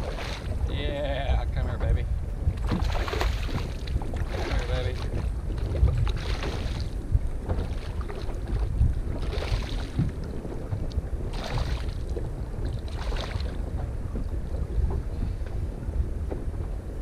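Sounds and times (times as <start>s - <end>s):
choppy lake water: 0.0s - 17.0s
wind buffeting microphone: 0.0s - 17.0s.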